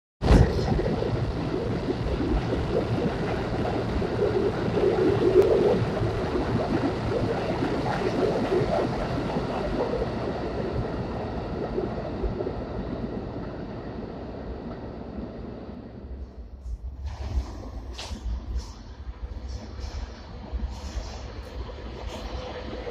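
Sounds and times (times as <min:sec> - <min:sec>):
subway train wheels rumbling: 0:00.2 - 0:22.9.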